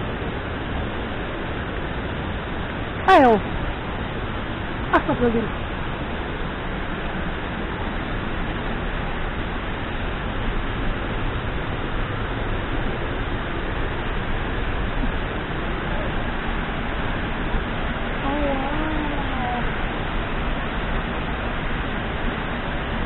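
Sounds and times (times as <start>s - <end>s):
rain: 0.0s - 23.0s.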